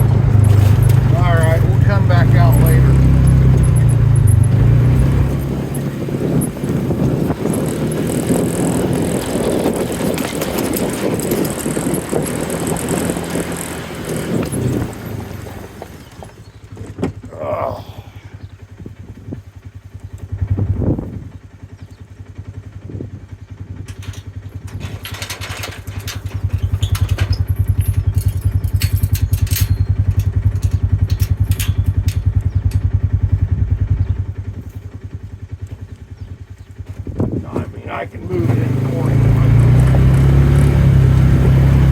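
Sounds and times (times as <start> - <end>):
farm vehicle engine running: 0.0 - 41.9.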